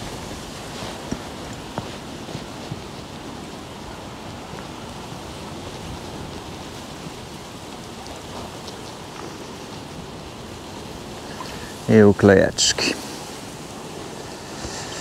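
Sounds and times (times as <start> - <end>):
raindrop ticks: 0.0 - 15.0
steady rain: 0.0 - 15.0.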